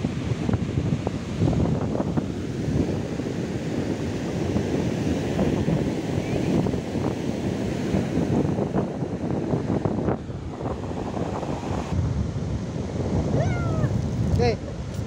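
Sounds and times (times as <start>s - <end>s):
surf washing in shallow water: 0.0s - 15.0s
wind buffeting microphone: 0.0s - 15.0s.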